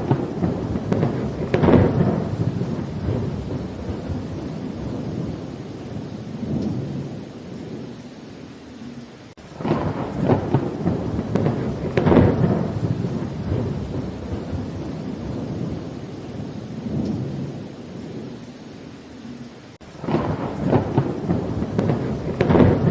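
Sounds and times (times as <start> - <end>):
sharp crackling thunderclap: 0.0 - 7.9, 9.4 - 18.4, 19.8 - 22.9
distant thunder rumbling: 0.0 - 22.9
rain: 0.0 - 22.9.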